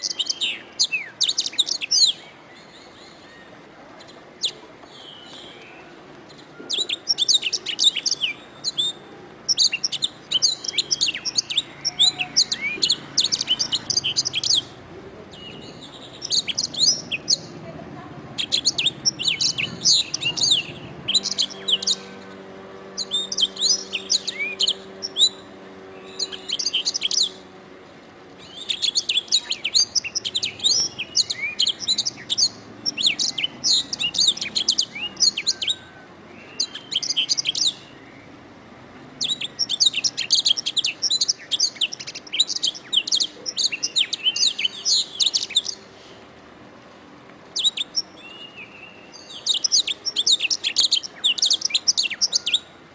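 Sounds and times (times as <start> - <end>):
canary trilling: 0.0 - 2.2, 6.3 - 17.6, 18.3 - 27.5, 28.4 - 38.0, 39.2 - 45.8, 47.6 - 52.7.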